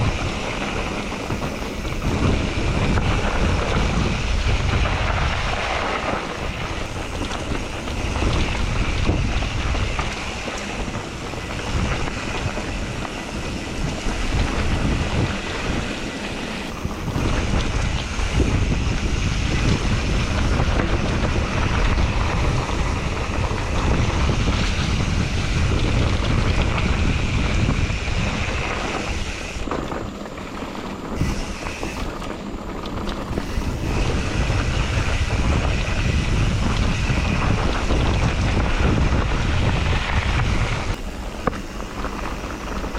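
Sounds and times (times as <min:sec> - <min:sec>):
bike ride rumble: 0:00.0 - 0:42.9
wind rushing over microphone: 0:00.0 - 0:42.9.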